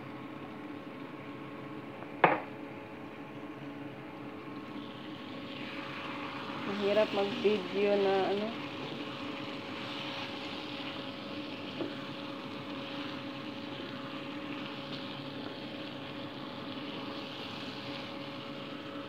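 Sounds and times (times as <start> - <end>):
chicken sizzling in pan: 3.1 - 19.0.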